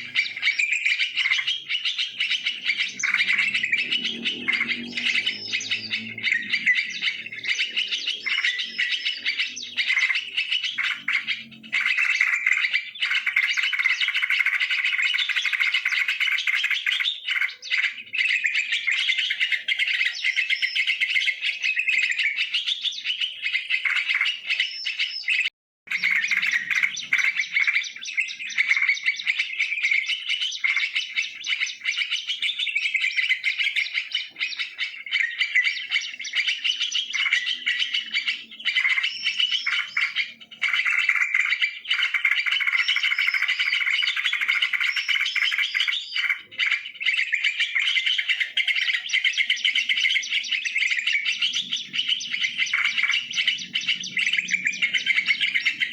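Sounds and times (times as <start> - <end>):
bulbuls chirping: 0.0 - 55.9.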